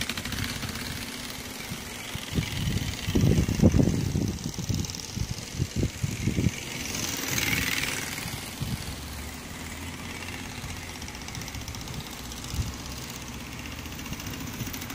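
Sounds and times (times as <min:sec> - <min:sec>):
card buzzing on bicycle spokes: 0:00.0 - 0:14.9
low buffets on microphone: 0:00.0 - 0:14.9.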